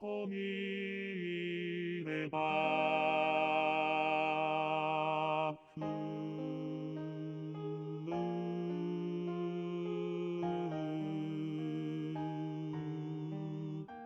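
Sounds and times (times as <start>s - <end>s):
choir singing held notes: 0.0s - 14.0s.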